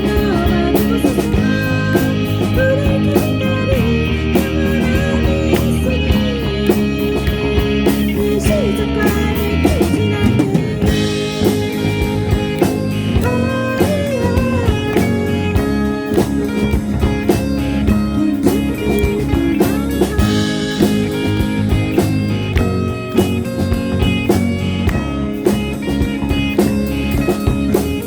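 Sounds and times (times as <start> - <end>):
drums: 0.0 - 28.0
lead guitar bending notes: 0.0 - 28.0
steady bass: 0.0 - 28.0.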